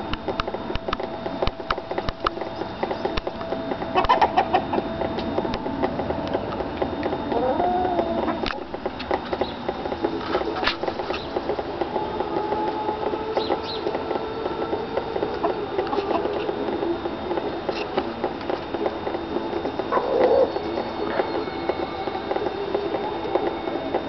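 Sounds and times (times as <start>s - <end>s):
steady background hum: 0.0s - 24.0s
chickens pecking on metal dish: 0.4s - 23.5s.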